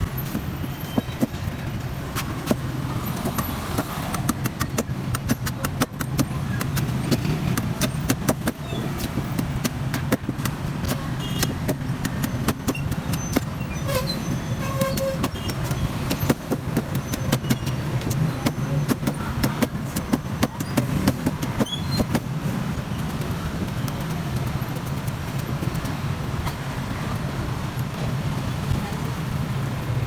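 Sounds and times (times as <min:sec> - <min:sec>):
street traffic hum: 0:00.0 - 0:30.0
sharp knocks and clicks: 0:01.0 - 0:13.6, 0:14.7 - 0:26.7.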